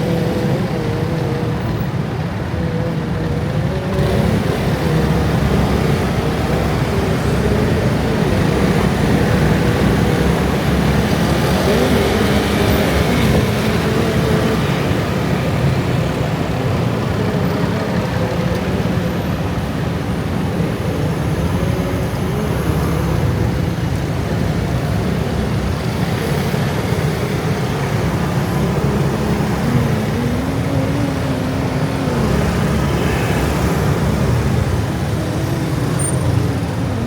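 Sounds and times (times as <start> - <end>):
road rumble: 0.0 - 37.0
scooter engines running: 0.0 - 37.0.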